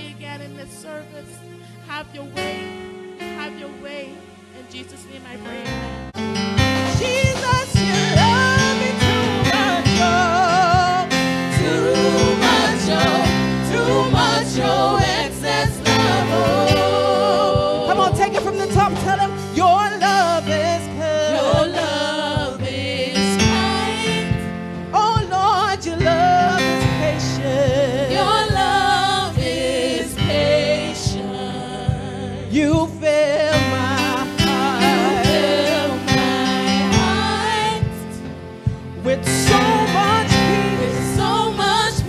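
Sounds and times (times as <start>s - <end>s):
instrumental backing with drums: 5.7s - 42.0s
women singing gospel song: 6.8s - 38.4s, 39.0s - 42.0s.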